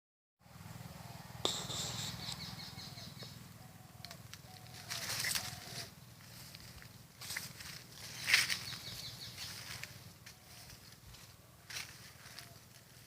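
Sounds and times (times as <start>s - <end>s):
steady low hum: 0.4s - 13.0s
birds chirping: 1.1s - 13.0s.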